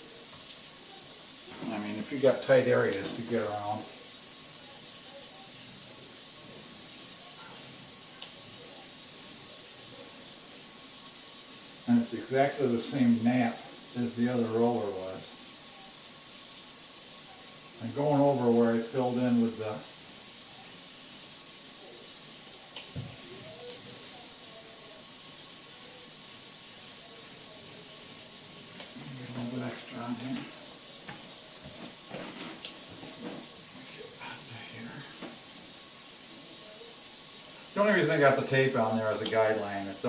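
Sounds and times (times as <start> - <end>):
paint roller hissing on wall: 0.0 - 40.0.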